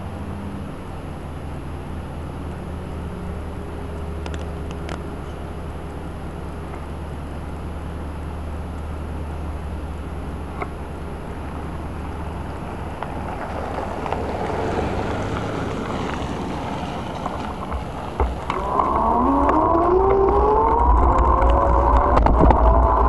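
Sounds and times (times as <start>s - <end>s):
rising pitched whine: 0.0s - 23.0s
wind and road noise: 0.0s - 23.0s.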